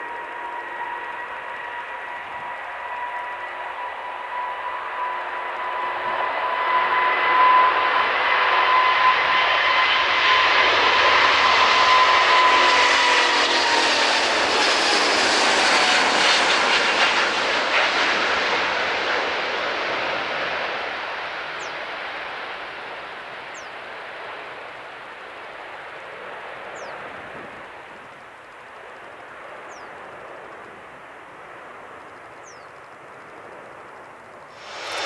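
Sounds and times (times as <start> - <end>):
jet engine roar: 0.0 - 35.0
jet engine whine: 0.0 - 35.0.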